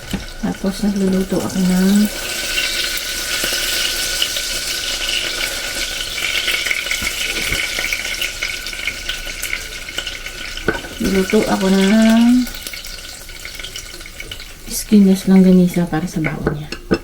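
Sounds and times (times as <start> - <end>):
sausages sizzling in a pan: 0.0 - 17.0.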